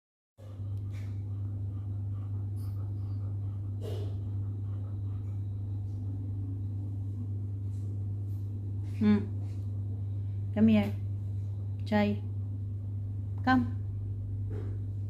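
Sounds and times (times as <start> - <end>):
steady low hum: 0.4 - 15.0.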